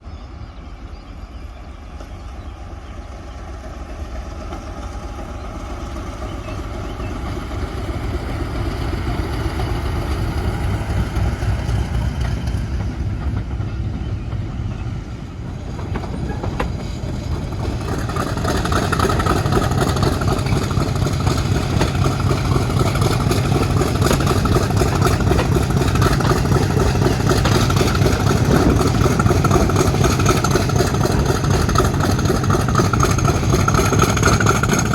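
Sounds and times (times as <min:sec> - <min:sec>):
diesel locomotive engine approaching: 0:00.0 - 0:34.9.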